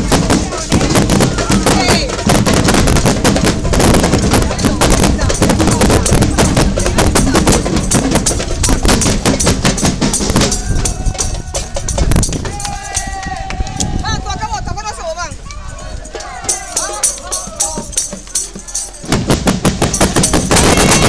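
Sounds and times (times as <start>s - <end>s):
voices: 0.0s - 19.3s
parade drumming and percussion: 0.0s - 21.0s.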